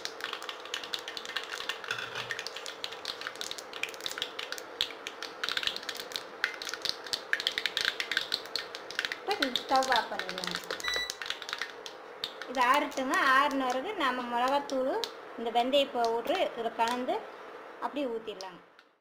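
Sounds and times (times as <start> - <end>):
crackling and popping in hot oil: 0.0 - 17.2
faint hum: 0.0 - 19.0.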